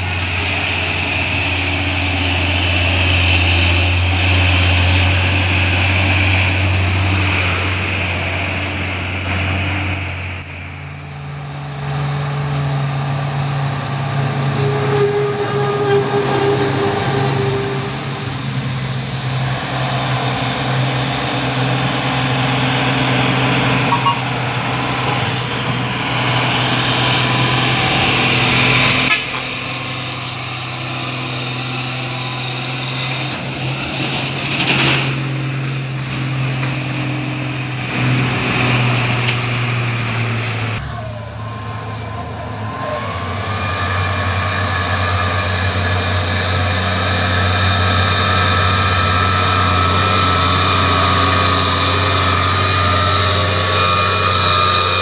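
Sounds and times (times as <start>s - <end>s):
diesel truck engines labouring: 0.0s - 55.0s.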